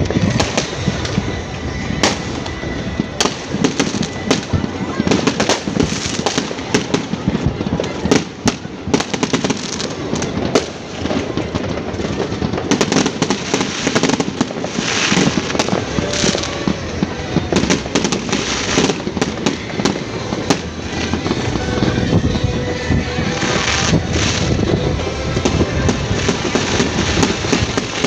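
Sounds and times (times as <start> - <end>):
fireworks bangs and crackles: 0.0 - 28.0
hissing crackling firework bursts: 0.0 - 28.0.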